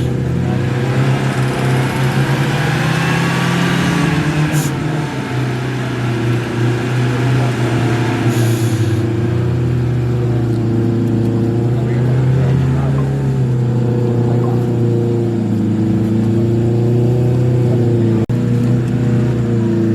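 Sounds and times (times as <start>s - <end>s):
car engine running: 0.0s - 19.9s.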